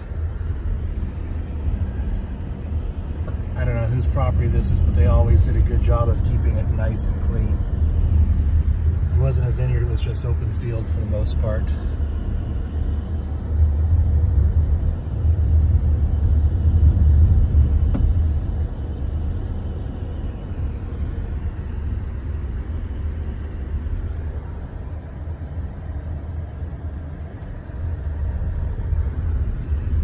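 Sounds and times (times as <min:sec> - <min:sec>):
engine and tyre rumble: 0:00.0 - 0:30.0.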